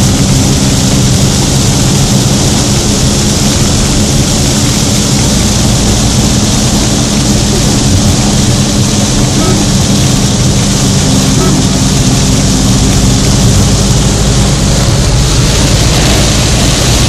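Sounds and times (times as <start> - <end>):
heavy rain on car roof: 0.0 - 17.0
low engine hum: 0.0 - 17.0.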